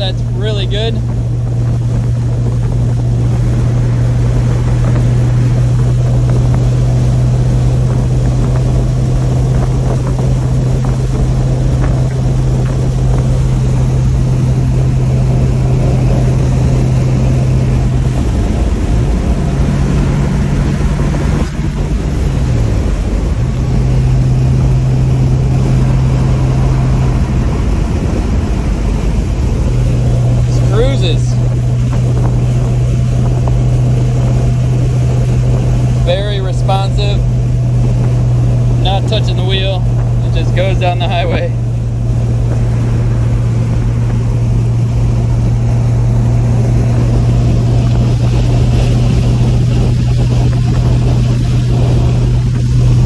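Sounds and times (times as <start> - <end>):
car engine droning: 0.0 - 53.0.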